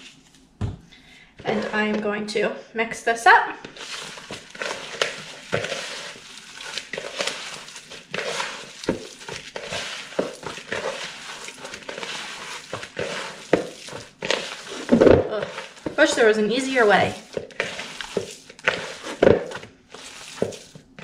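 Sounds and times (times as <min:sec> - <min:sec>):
hands squishing meat mixture: 0:03.6 - 0:21.0.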